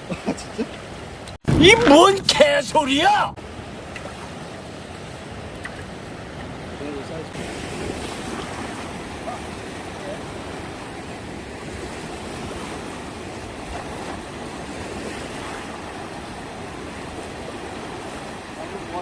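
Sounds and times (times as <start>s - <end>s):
sea surf washing onto beach: 0.0s - 19.0s.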